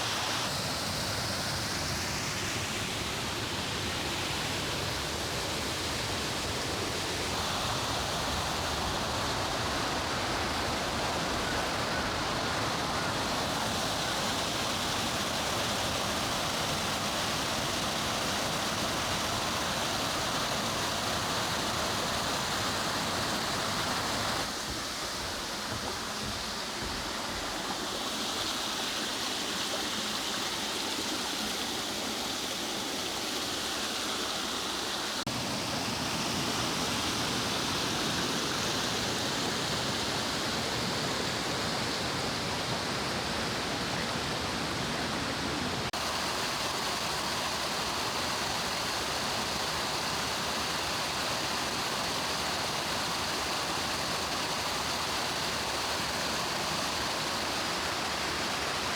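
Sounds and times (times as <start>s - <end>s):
stream water running over rocks: 0.0s - 58.9s.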